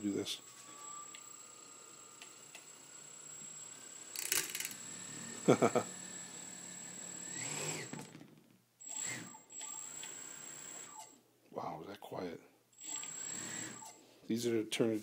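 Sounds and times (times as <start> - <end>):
electric motors whining: 0.0 - 11.2, 12.8 - 14.0.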